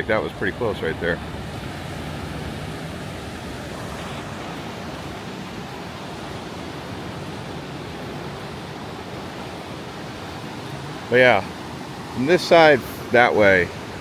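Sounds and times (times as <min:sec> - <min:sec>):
surf washing on sandy beach: 0:00.0 - 0:14.0
wind: 0:00.0 - 0:14.0.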